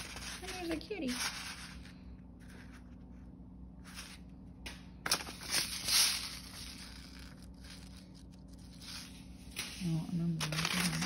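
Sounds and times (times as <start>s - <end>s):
paper rustling and crinkling: 0.0s - 3.2s, 5.0s - 11.0s
faint low hum: 0.0s - 11.0s.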